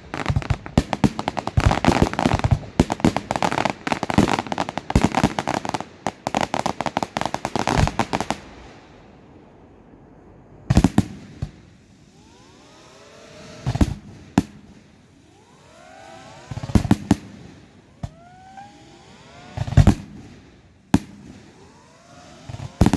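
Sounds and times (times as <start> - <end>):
firework bangs and crackling: 0.0 - 22.9
firework whistles: 0.0 - 22.9.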